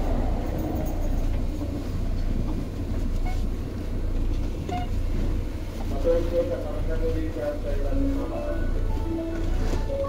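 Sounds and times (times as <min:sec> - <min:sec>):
electric train wheels rumbling: 0:00.0 - 0:10.0.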